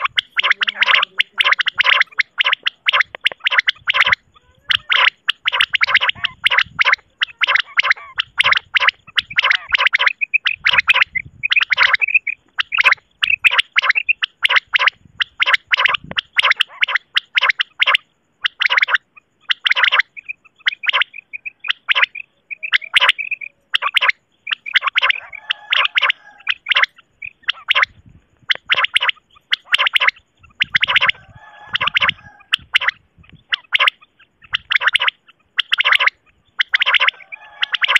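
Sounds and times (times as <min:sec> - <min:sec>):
quail calls: 0:00.0 - 0:37.9.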